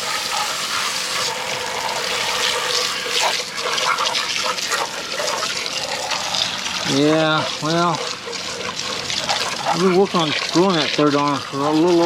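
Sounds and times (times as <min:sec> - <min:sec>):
hose water rushing: 0:00.0 - 0:12.0
water splashing on plastic: 0:00.0 - 0:12.0.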